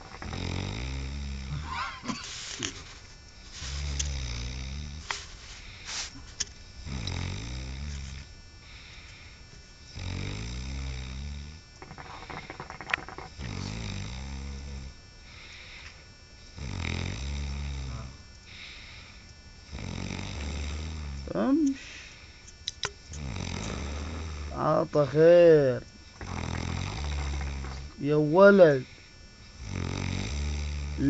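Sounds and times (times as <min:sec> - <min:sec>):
man snoring heavily: 0:00.0 - 0:22.3, 0:23.2 - 0:31.0.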